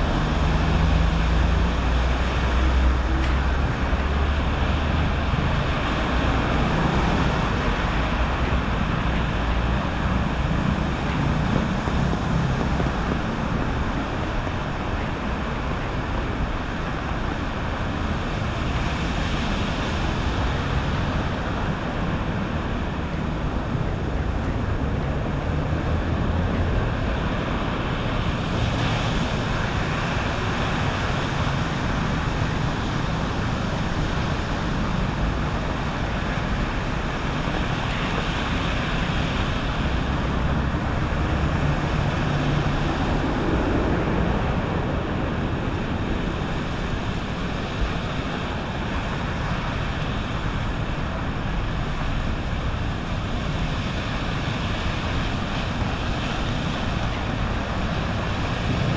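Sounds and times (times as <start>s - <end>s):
waves washing onto a beach: 0.0s - 58.9s
wind buffeting the microphone: 0.0s - 58.9s.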